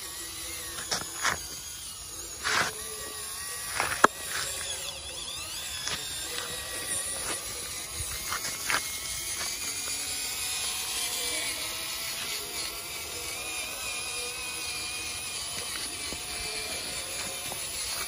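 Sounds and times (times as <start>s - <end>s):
toy car motor whining: 0.0s - 18.0s.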